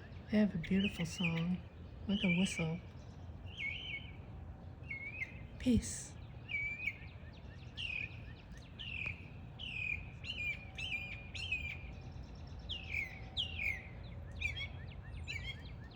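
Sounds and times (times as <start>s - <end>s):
low background noise: 0.0s - 15.9s
songbirds whistling: 0.0s - 15.9s.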